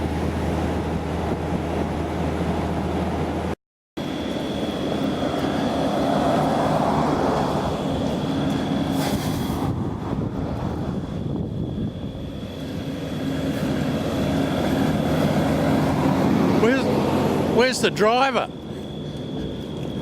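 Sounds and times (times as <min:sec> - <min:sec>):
road noise rushing: 0:00.0 - 0:20.0
vehicle engine hum: 0:00.0 - 0:20.0.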